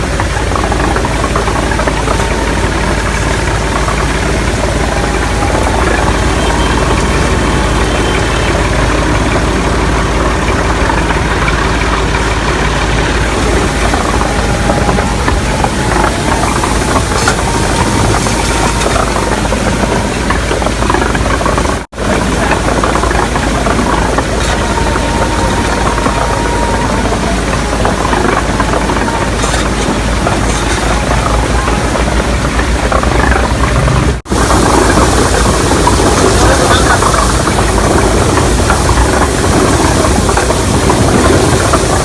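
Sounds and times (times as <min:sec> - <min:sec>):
washing machine engine running: 0:00.0 - 0:42.0.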